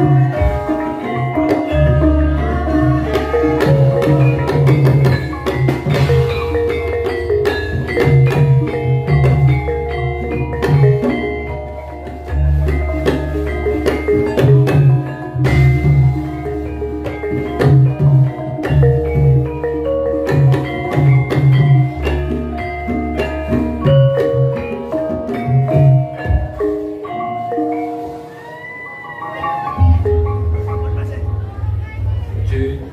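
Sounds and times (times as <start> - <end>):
metallophones ringing: 0.0 - 32.5.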